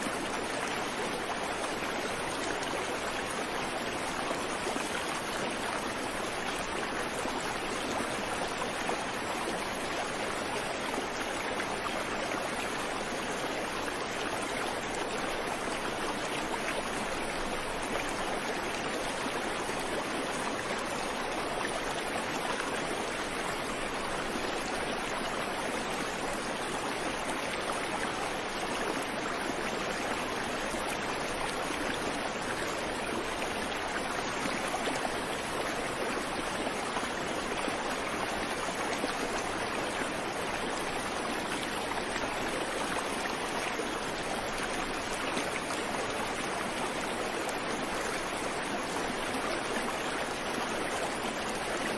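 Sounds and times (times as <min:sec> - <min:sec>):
creek water babbling over rocks: 0:00.0 - 0:51.9.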